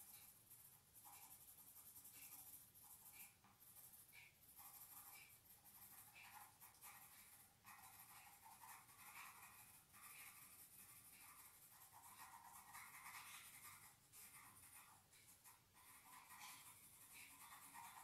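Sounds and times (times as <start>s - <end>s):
crayon scratching on paper: 0.0s - 18.0s.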